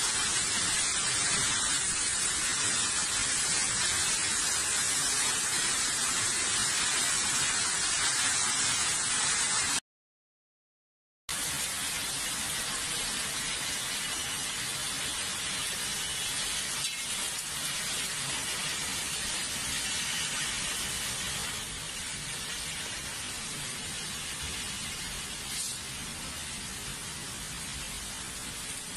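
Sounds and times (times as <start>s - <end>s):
torrential rain pouring: 0.0s - 9.8s, 11.3s - 28.9s.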